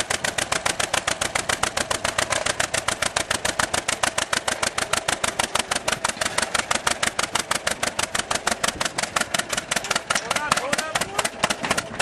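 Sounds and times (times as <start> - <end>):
tractor engine exhaust pops: 0.0 - 12.0.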